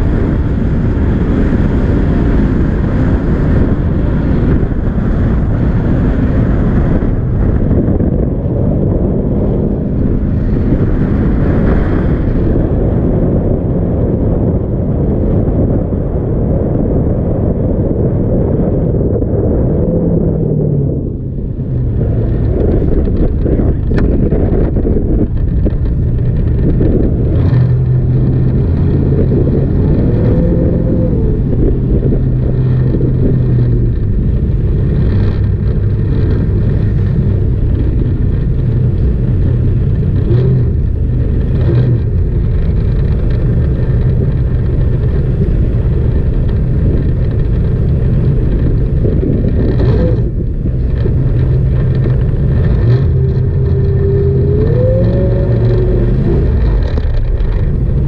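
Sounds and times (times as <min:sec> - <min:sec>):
jet boat engine running: 0:00.0 - 0:58.0
wind noise: 0:00.0 - 0:58.0.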